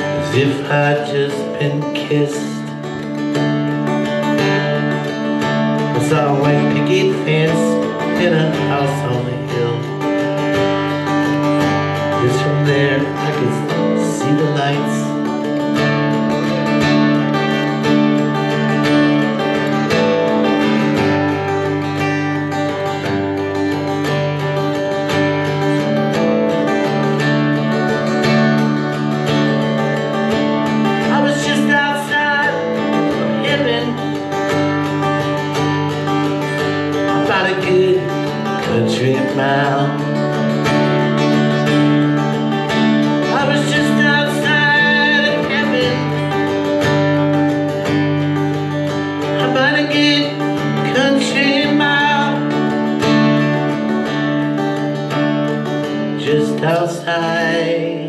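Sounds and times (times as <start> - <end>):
acoustic guitar strumming: 0.0 - 58.0
bending guitar melody: 0.0 - 58.0.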